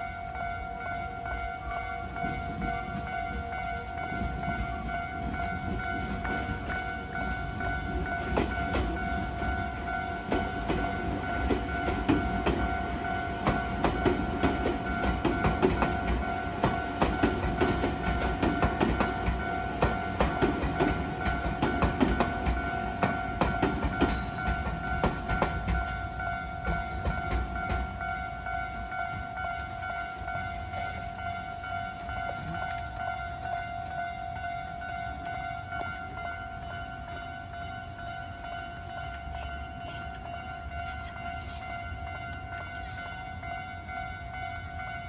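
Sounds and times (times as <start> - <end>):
level-crossing warning bell ringing: 0.0 - 45.0
train wheels clacking over rail joints: 0.0 - 45.0.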